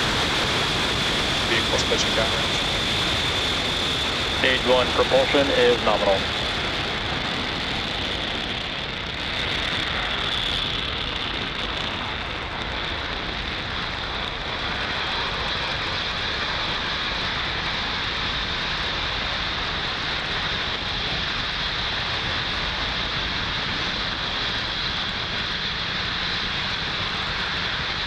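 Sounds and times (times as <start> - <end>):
rocket engines roaring: 0.0 - 28.0.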